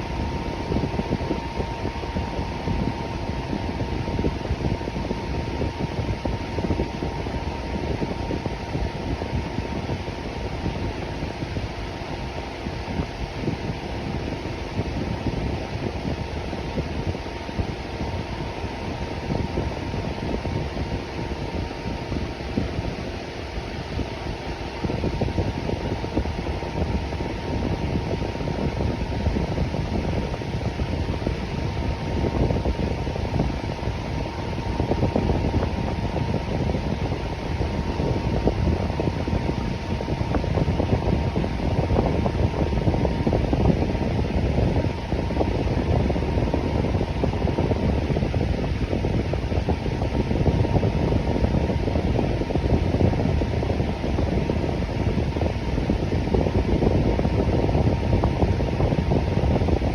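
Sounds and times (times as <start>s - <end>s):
electric fan whoosh: 0.0s - 59.9s
faint steady hum: 0.0s - 59.9s.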